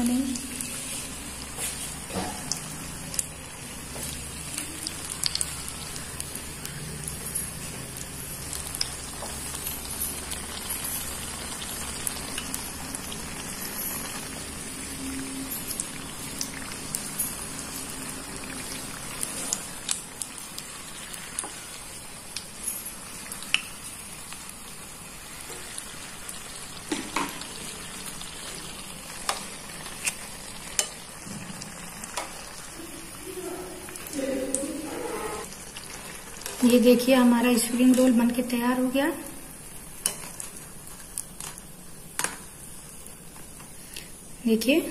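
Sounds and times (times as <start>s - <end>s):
food deep-frying in oil: 0.0s - 44.9s.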